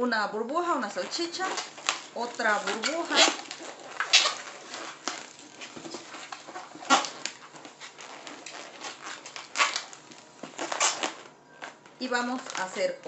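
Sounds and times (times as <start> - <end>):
balloon squeaking and rubbing: 1.0 - 13.0.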